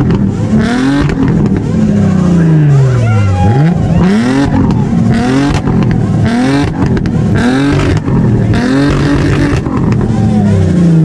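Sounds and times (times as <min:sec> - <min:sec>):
car engines revving loudly: 0:00.0 - 0:11.0.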